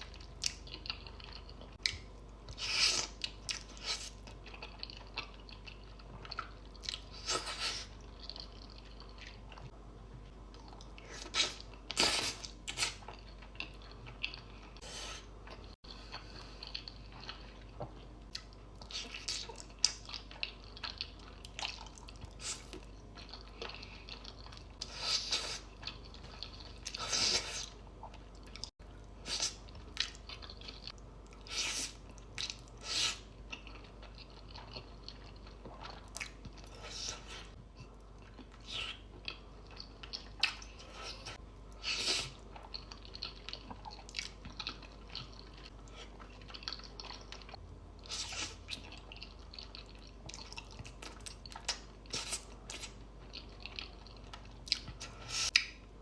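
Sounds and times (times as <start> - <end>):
chewing with wet crunches: 0.0 - 55.8.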